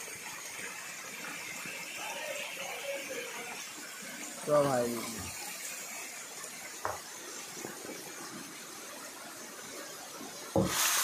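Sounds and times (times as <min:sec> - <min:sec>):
fish splashing and churning water: 0:00.0 - 0:11.0.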